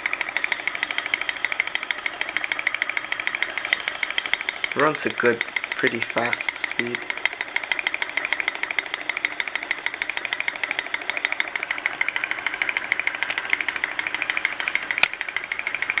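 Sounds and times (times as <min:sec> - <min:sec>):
small engine rapid clicking: 0:00.0 - 0:16.0.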